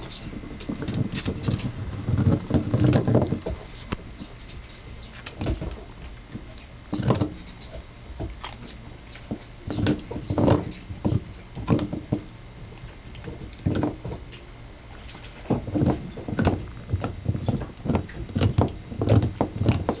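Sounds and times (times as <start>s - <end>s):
dog chewing: 0.0s - 20.0s.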